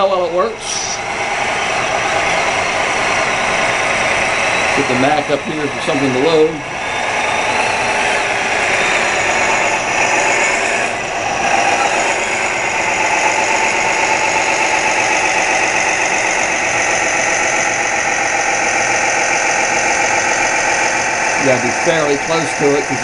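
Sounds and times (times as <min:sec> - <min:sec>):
diesel engine sound from speaker: 0:00.0 - 0:23.0.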